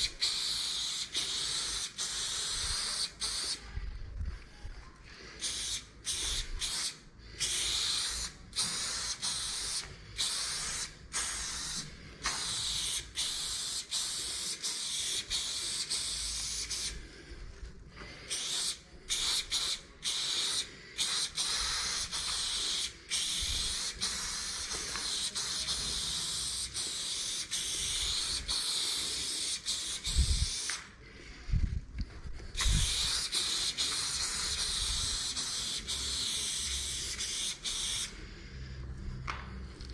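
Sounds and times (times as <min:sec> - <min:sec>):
spray paint can hissing: 0:00.0 - 0:03.6, 0:05.4 - 0:17.0, 0:18.2 - 0:30.9, 0:32.5 - 0:38.2.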